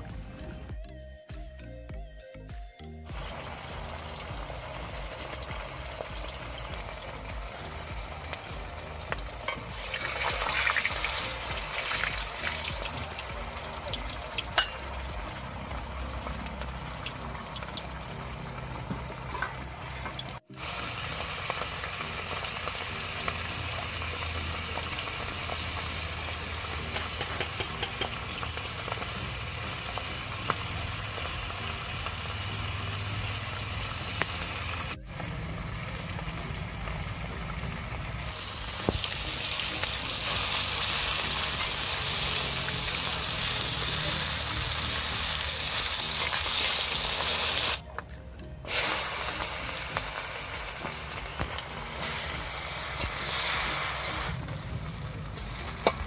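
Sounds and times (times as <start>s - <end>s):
fish sizzling in hot oil: 3.1s - 47.8s, 48.6s - 56.0s.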